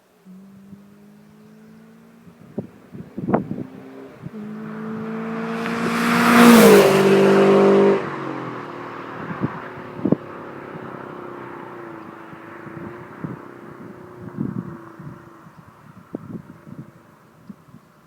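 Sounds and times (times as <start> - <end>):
car engine revving: 0.6 - 15.4.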